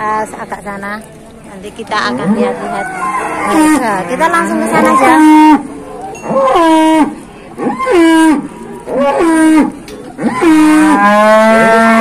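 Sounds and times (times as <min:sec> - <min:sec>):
cattle mooing: 0:02.0 - 0:12.0.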